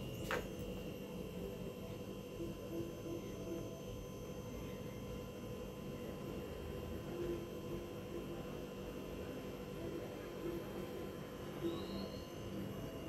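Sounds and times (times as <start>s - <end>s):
gas stove hum and hiss: 0.0s - 13.0s.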